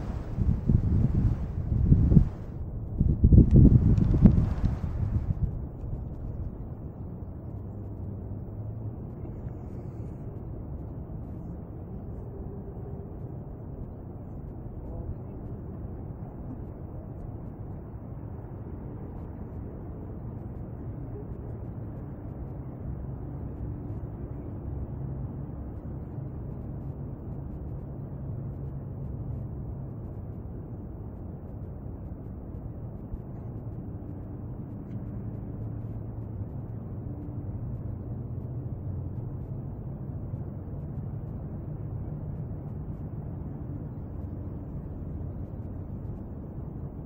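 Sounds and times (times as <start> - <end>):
faint hum: 0.0 - 47.0
low rumbling background noise: 0.0 - 47.0.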